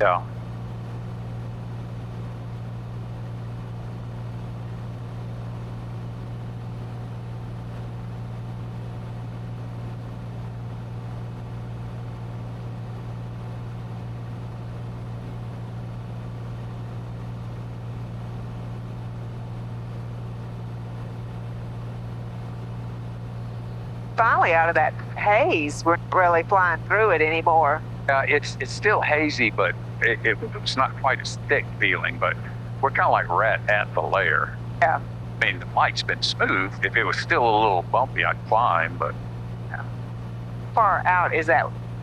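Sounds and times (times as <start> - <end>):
aircraft engine drone in cockpit: 0.0 - 42.0.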